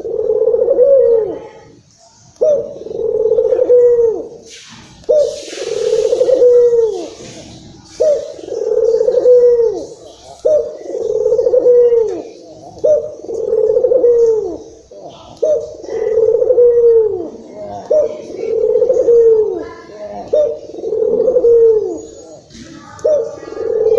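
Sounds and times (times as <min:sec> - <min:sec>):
dove cooing: 0:00.0 - 0:01.8, 0:02.4 - 0:23.9.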